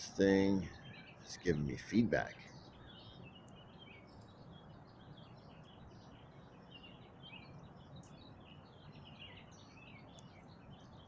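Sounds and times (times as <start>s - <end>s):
faint bird chirps and twitters: 0.0s - 11.0s.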